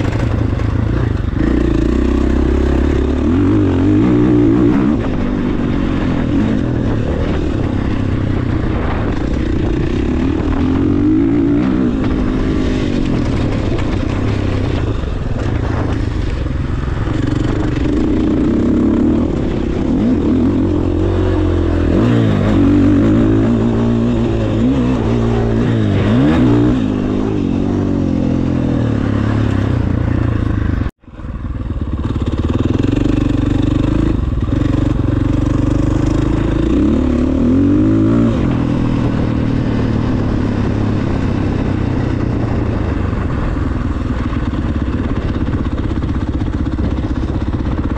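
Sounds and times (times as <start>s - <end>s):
motocross bike engine revving: 0.0s - 30.9s, 31.9s - 47.9s.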